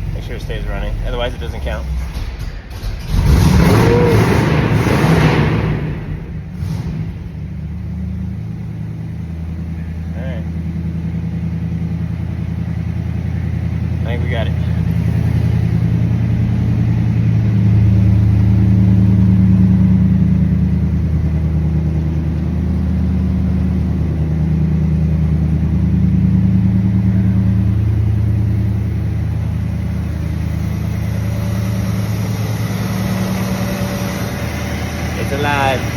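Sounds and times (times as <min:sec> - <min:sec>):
car engine running: 0:00.0 - 0:35.9.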